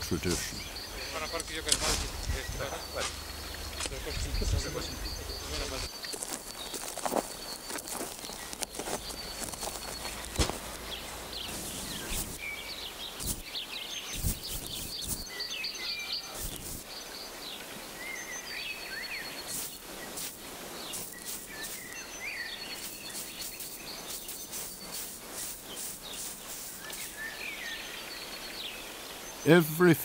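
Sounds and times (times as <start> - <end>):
small birds chirping and singing: 0.0 - 30.0
steady hiss: 0.0 - 30.0.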